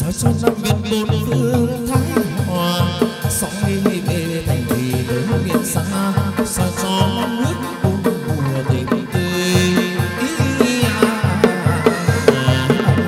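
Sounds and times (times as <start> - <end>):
band playing a melody: 0.0 - 13.0
steady drum beat: 0.0 - 13.0.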